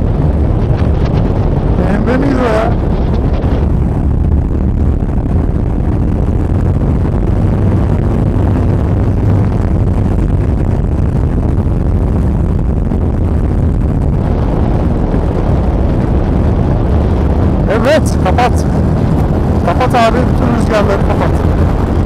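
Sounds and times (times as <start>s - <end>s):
motorcycle engine and exhaust: 0.0s - 22.0s
road noise: 0.0s - 22.0s.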